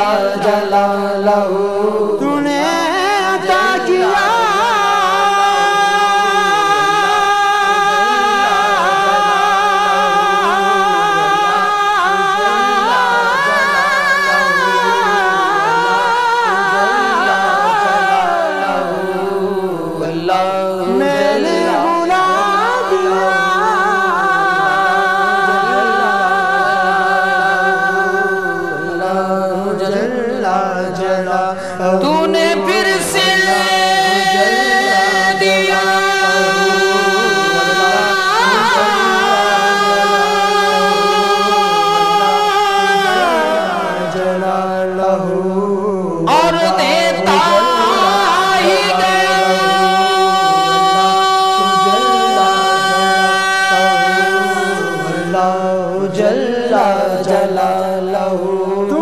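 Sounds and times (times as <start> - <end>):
men singing devotional song: 0.0 - 59.0.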